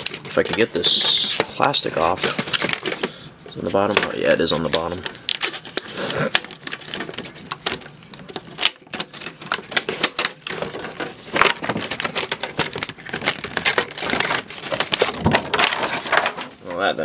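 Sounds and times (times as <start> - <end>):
plastic wrap crackling and tearing: 0.0 - 16.8.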